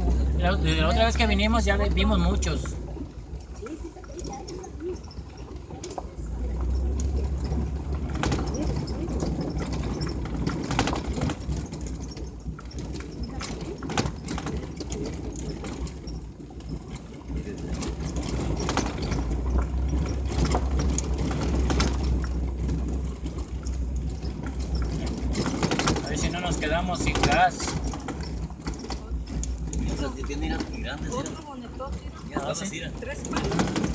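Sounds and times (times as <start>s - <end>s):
rattles and knocks over bumps: 0.0s - 33.9s
vehicle engine and road hum: 0.0s - 33.9s.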